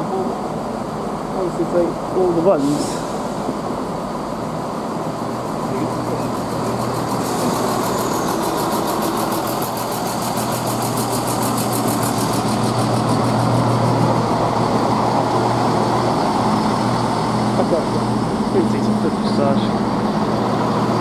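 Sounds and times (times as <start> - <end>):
diesel train engines idling: 0.0 - 21.0.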